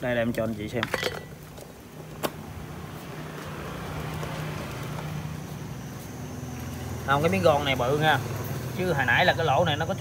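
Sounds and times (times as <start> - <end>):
engine hum: 1.3 - 10.0.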